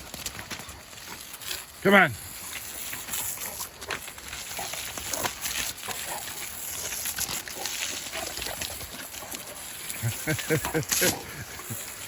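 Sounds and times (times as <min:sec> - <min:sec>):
water spraying and splashing: 0:00.0 - 0:12.0.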